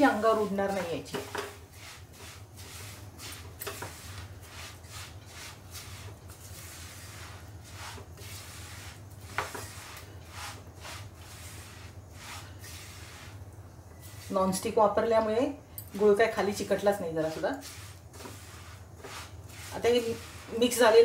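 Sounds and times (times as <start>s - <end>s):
spatula scraping a pan: 0.0s - 14.6s, 17.1s - 21.0s.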